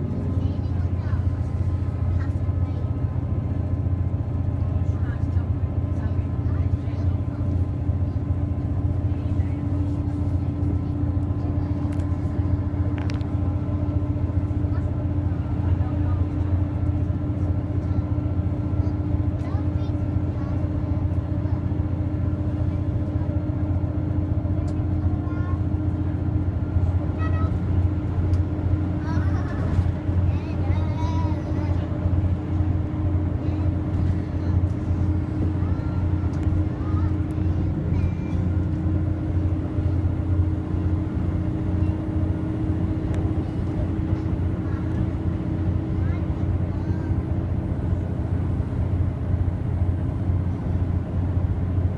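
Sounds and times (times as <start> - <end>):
train engine hum: 0.0 - 51.9
train rumbling: 0.0 - 51.9.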